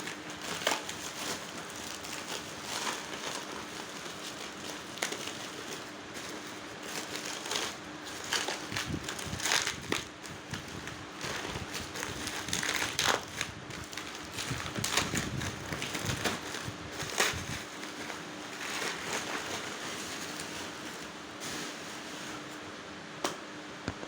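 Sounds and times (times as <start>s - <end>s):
packaging crinkling: 0.0s - 22.6s.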